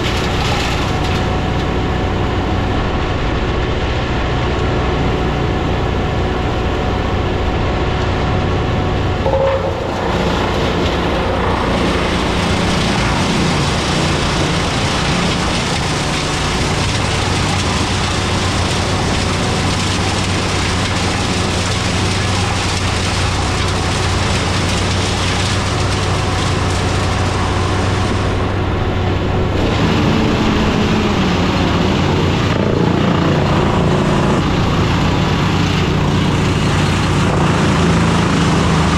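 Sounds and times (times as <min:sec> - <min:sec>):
large engine running at high revs: 0:00.0 - 0:38.9.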